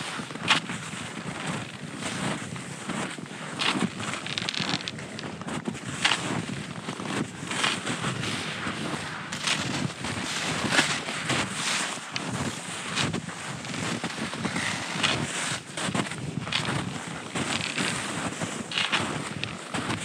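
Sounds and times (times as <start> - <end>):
skis swishing and crunching over snow: 0.0 - 20.0.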